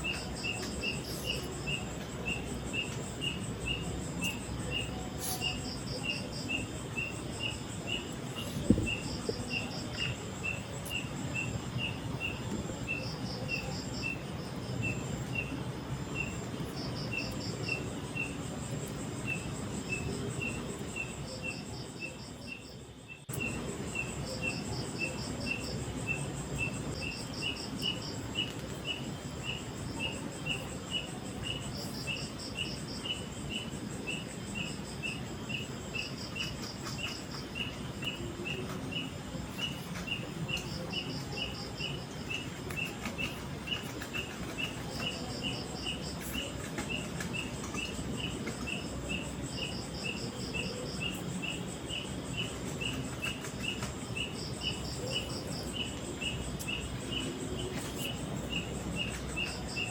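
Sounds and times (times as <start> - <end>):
insect pulsed trill: 0.0 - 59.9
insect steady chirp: 0.0 - 59.9.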